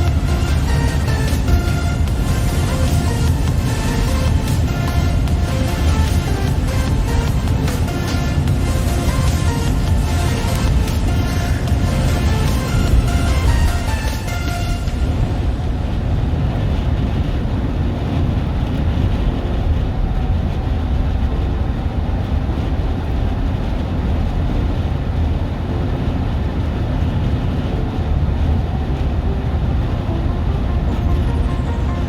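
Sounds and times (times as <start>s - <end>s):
loud low rumbling: 0.0s - 32.0s.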